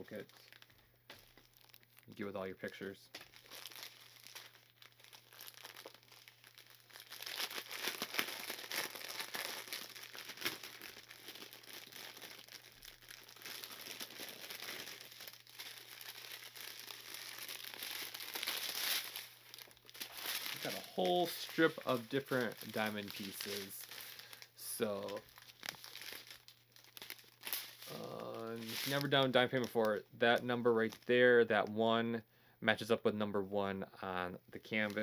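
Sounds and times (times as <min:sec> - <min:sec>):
plastic packaging crinkling: 0:00.0 - 0:31.7, 0:34.7 - 0:35.0.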